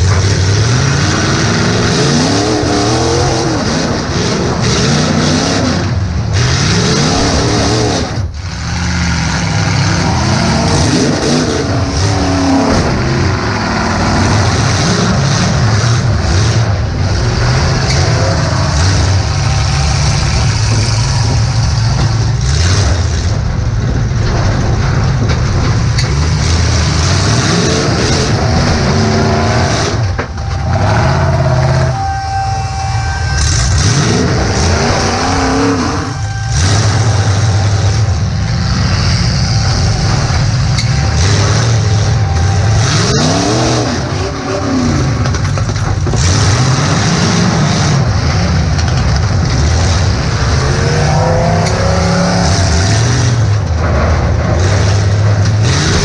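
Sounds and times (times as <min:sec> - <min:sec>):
car engine revving: 0:00.0 - 0:56.0
sharp bangs: 0:09.4 - 0:56.0.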